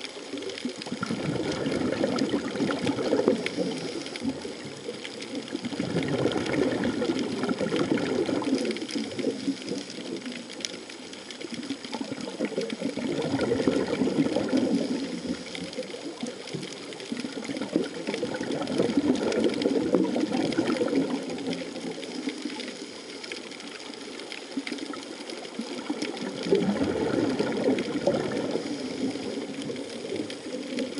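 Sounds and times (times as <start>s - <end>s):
faint crackling: 0.0s - 30.9s
water rushing and sloshing: 0.0s - 30.9s.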